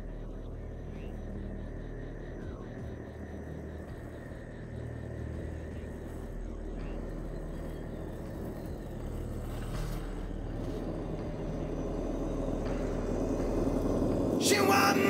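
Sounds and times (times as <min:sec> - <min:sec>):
electric motor and gears whirring: 0:00.0 - 0:15.0.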